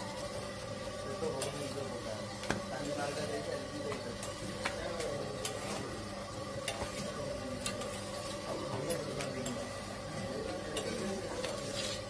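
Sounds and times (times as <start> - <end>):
flatbread sizzling and crackling: 0.0 - 12.0.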